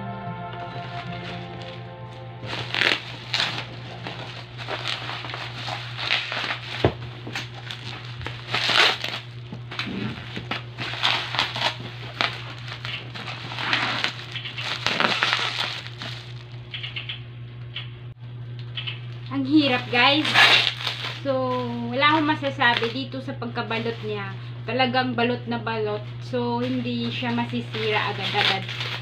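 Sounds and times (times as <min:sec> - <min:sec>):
steady low hum: 0:00.0 - 0:29.0
plastic packaging crinkling: 0:00.8 - 0:16.8, 0:19.1 - 0:24.5, 0:25.9 - 0:29.0.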